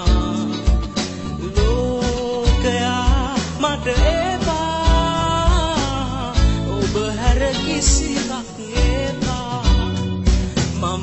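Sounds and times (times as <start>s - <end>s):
band with steady beat: 0.0s - 11.0s.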